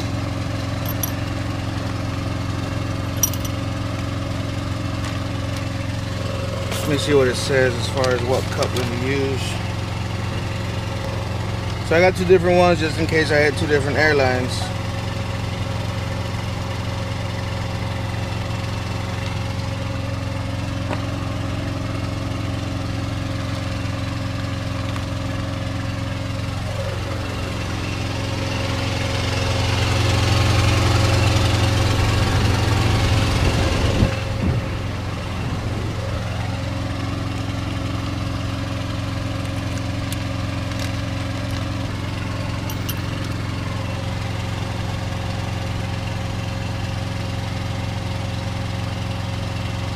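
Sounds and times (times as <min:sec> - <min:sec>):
truck engine idling: 0:00.0 - 0:49.9.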